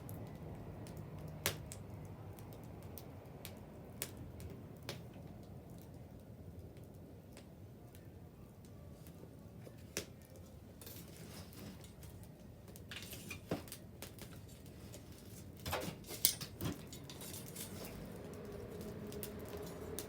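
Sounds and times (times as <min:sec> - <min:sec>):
bonfire crackling: 0:00.0 - 0:20.0
burning wood pops: 0:00.1 - 0:06.0, 0:09.6 - 0:20.0.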